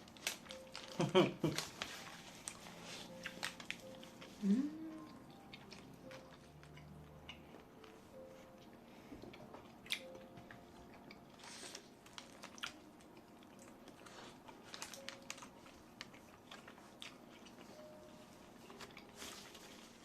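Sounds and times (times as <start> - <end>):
chewing with small crunches: 0.1 - 20.0.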